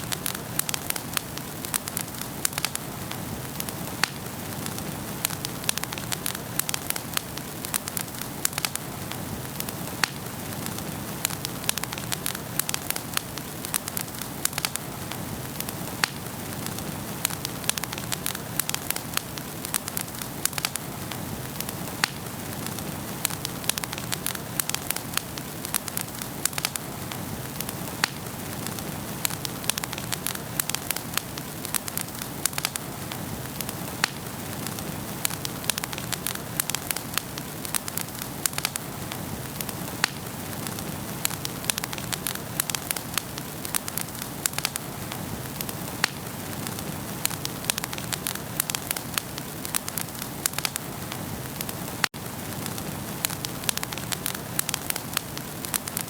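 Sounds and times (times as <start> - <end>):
fire hissing and rumbling: 0.0 - 56.0
wood crackling and popping: 0.0 - 56.0.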